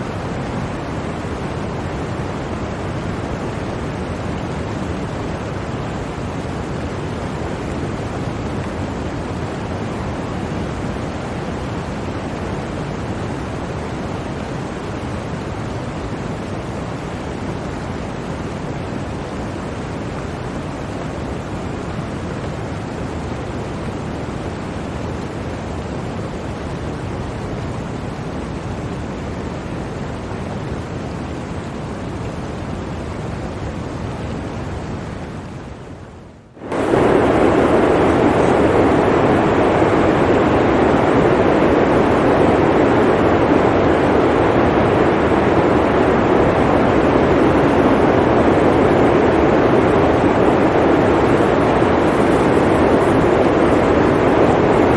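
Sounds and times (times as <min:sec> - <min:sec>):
blizzard wind rushing: 0:00.0 - 0:54.9.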